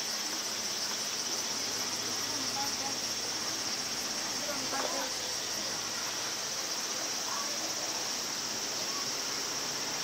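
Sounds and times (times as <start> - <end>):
cicadas droning: 0.0 - 10.0.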